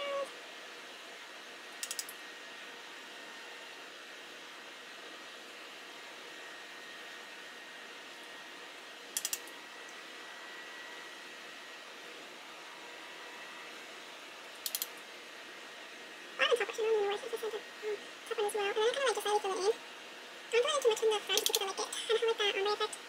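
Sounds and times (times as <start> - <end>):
room tone hiss: 0.0 - 23.0.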